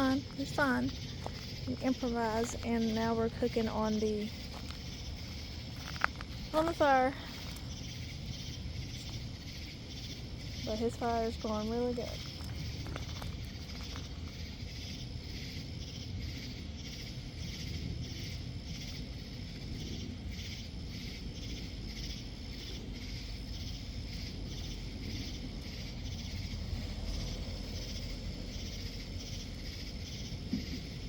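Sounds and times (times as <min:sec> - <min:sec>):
crickets chirping: 0:00.0 - 0:31.0
low steady rumble: 0:00.0 - 0:31.0.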